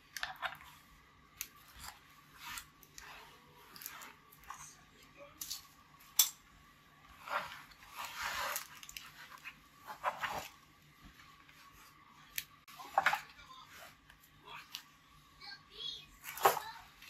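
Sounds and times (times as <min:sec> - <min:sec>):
cables rustling on fabric mat: 0:00.0 - 0:15.2.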